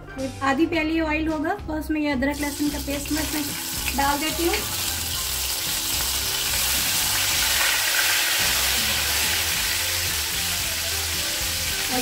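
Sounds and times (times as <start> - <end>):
paste sizzling in hot oil: 2.3 - 12.0.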